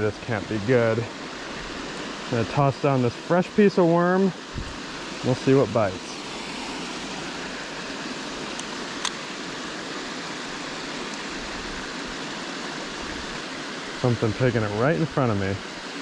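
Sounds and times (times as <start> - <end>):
water rushing over spillway: 0.0 - 16.0.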